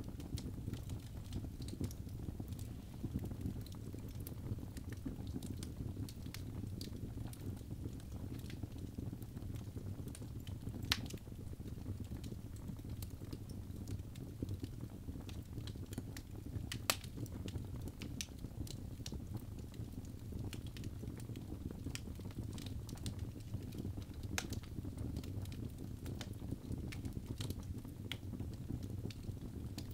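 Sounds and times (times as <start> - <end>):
low rumble of flames: 0.0 - 29.9.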